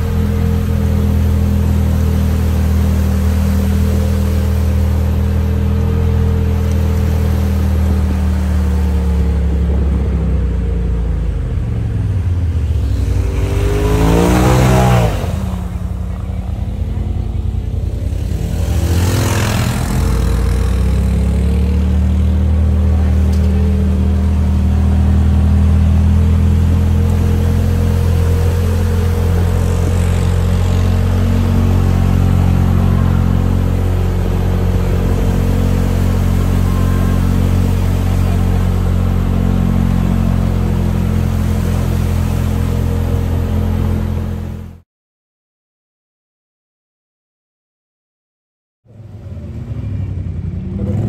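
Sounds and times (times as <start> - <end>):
off-road vehicle engine running: 0.0 - 44.8, 48.9 - 51.0.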